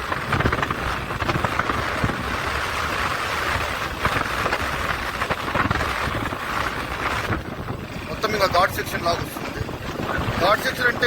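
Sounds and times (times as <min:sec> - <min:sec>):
motorcycle engine rumble: 0:00.0 - 0:11.0
wind on microphone: 0:00.0 - 0:11.0.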